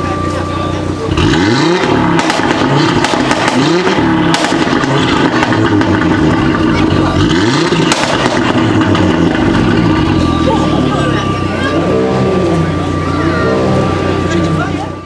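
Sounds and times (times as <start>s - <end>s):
car engine revving: 0.0s - 15.0s
exhaust pops and crackles: 0.0s - 15.0s.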